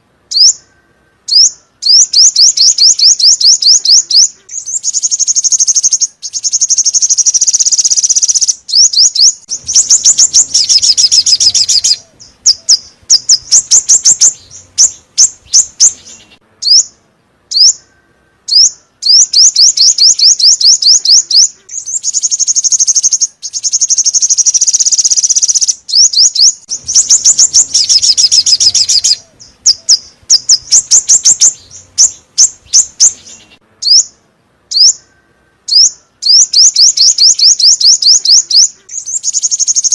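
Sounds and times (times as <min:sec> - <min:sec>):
bird chirps and trills: 0:00.3 - 0:39.9.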